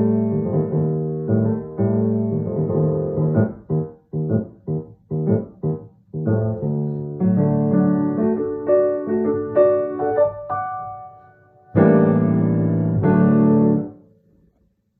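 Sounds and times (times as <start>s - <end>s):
piano playing: 0.0s - 14.1s.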